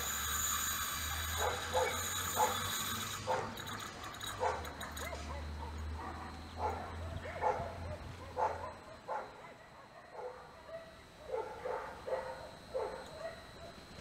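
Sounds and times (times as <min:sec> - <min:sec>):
dog barking: 0:01.3 - 0:03.6, 0:04.3 - 0:13.8.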